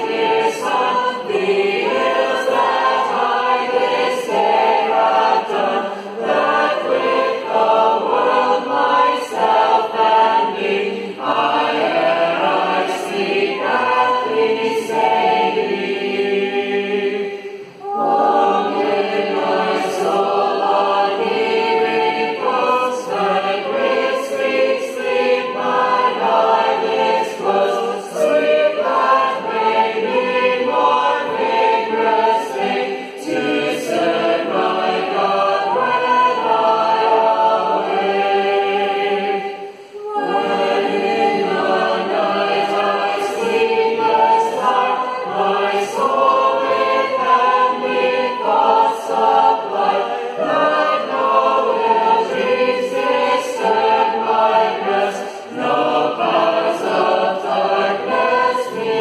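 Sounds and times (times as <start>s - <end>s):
group singing a hymn unaccompanied: 0.0s - 59.0s.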